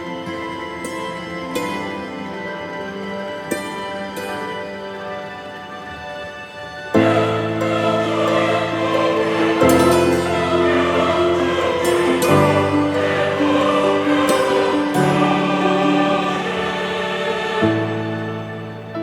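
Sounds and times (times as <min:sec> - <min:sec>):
choir singing sustained chords: 0:00.0 - 0:19.0.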